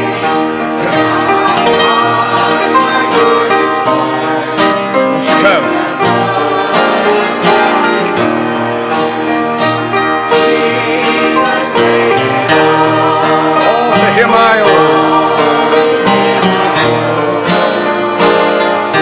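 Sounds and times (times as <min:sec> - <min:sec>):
instruments holding steady notes: 0:00.0 - 0:19.0
voices singing a hymn: 0:00.0 - 0:19.0.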